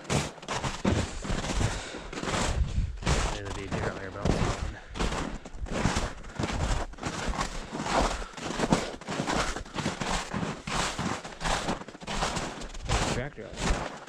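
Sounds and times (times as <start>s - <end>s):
footsteps through dry grass: 0.0s - 14.0s.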